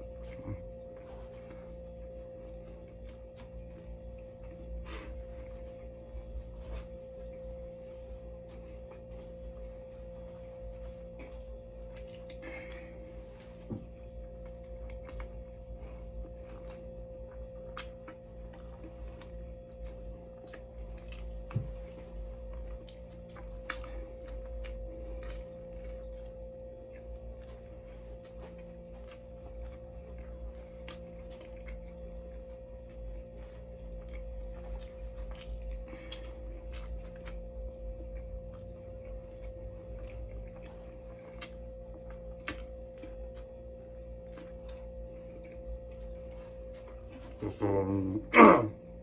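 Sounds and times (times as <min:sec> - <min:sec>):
electrical hum: 0:00.0 - 0:49.0
person chewing sandwich: 0:00.0 - 0:49.0.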